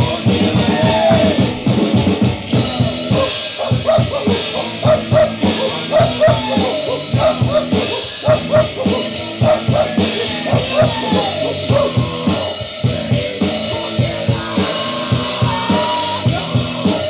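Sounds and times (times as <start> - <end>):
bending high notes: 0.0 - 17.0
drum kit beat: 0.0 - 17.0
instrumental rock music: 0.0 - 17.0.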